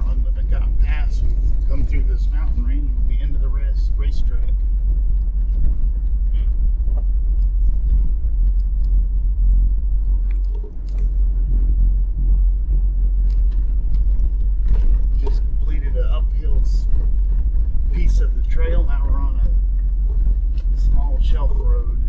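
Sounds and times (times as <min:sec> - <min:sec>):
vehicle rumbling on dirt road: 0:00.0 - 0:22.0.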